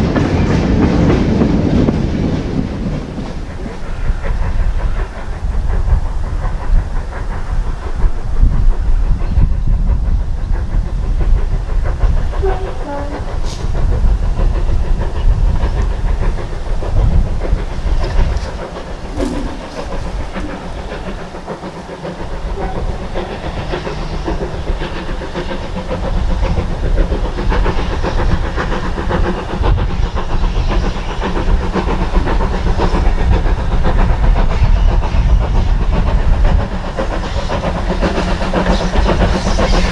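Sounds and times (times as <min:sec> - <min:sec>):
steam locomotive exhaust: 0:00.0 - 0:39.9
train wheels on rails: 0:00.0 - 0:39.9.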